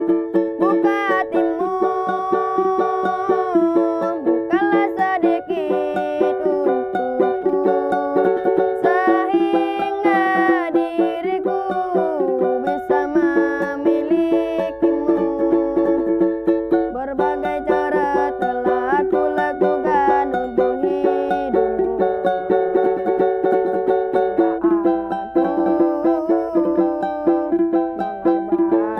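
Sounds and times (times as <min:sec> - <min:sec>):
child singing: 0:00.0 - 0:23.2, 0:24.4 - 0:28.9
strummed string instrument: 0:00.0 - 0:28.9.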